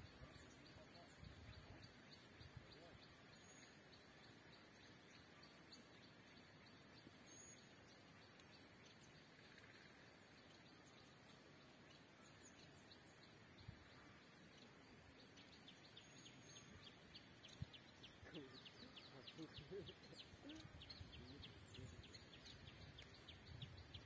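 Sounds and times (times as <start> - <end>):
faint outdoor hiss: 0.0 - 24.0.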